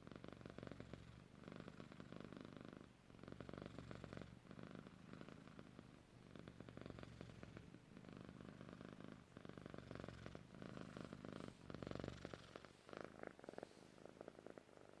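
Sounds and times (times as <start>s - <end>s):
cat purring with snuffly rasp: 0.0s - 15.0s.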